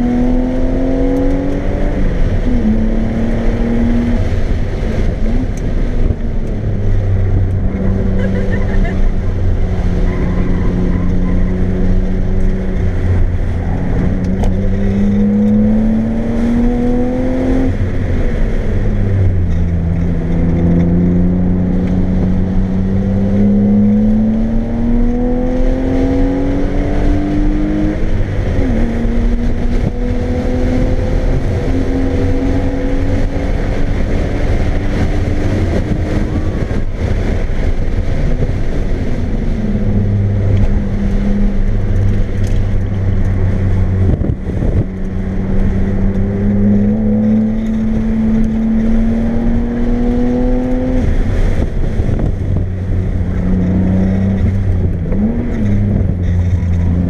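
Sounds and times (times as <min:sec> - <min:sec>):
car engine pulling hard: 0:00.0 - 0:57.0
tyre and wind noise: 0:00.0 - 0:57.0.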